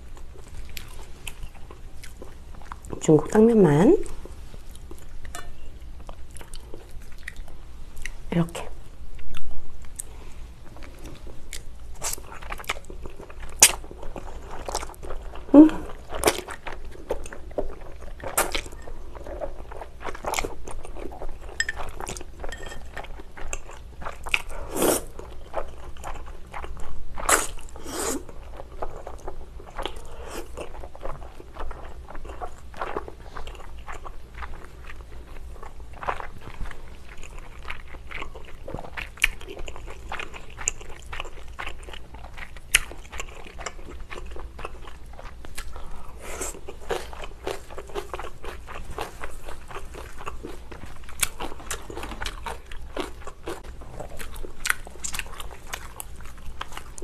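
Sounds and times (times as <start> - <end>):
person chewing noodles: 0.1 - 3.0, 4.0 - 8.2, 9.1 - 57.0.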